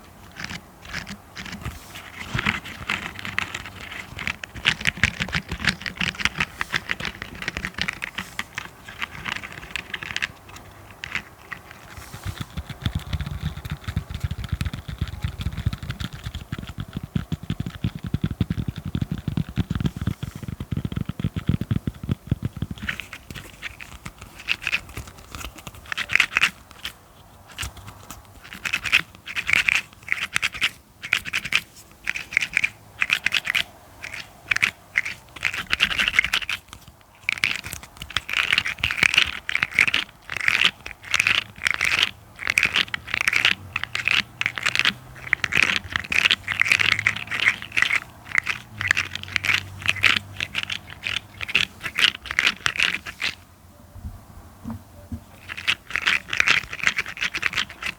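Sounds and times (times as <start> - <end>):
rapid scratching on a surface: 0.0 - 53.4, 55.3 - 57.9.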